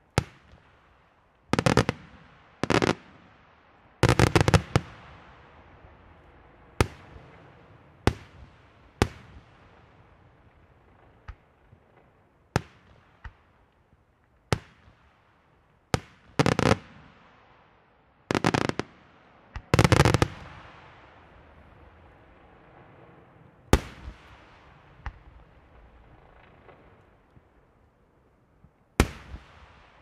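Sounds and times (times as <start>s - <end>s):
firework crackle: 0.0s - 13.9s, 16.0s - 17.5s, 18.3s - 30.0s.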